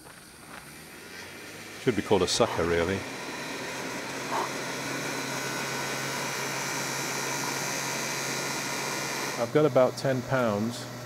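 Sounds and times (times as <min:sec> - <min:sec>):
gas blowtorch burning: 0:00.0 - 0:11.0
small blower fan running: 0:00.0 - 0:11.0.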